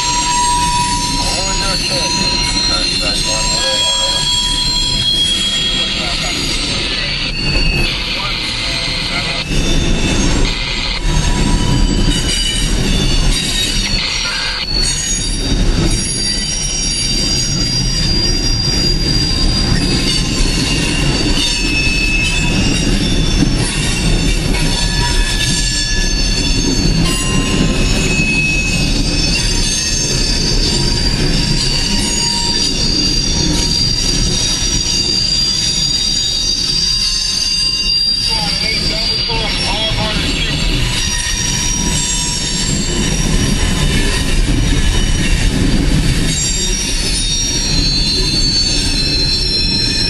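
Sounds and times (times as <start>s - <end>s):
high-pitched wheel squeals: 0.0s - 50.0s
train wheels rumbling on rail: 0.0s - 50.0s.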